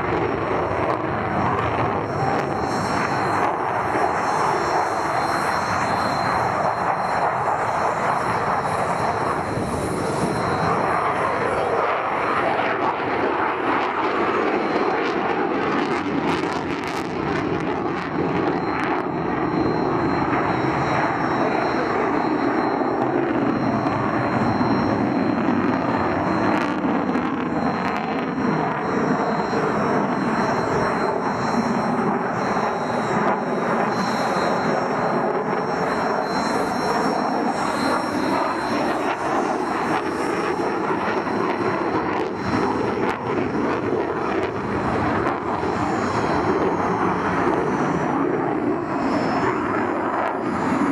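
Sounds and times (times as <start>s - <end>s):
jet engine roar: 0.0s - 50.9s.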